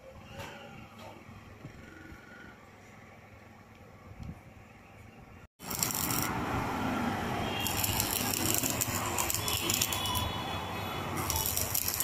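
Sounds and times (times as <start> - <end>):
steady workshop din: 0.0 - 12.0.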